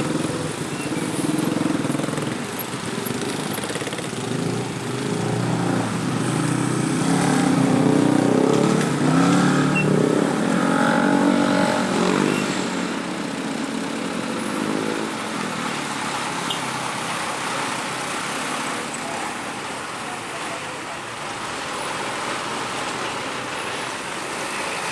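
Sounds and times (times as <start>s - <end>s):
road noise: 0.0s - 24.9s.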